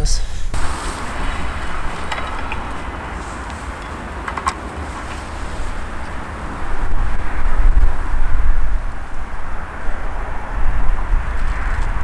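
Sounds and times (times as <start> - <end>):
wind rumbling on microphone: 0.3 - 12.0.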